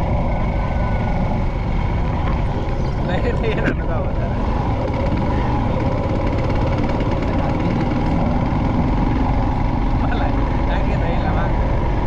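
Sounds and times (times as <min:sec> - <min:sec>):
continuous low rush: 0:00.0 - 0:12.0
motorcycle engine running: 0:00.0 - 0:12.0.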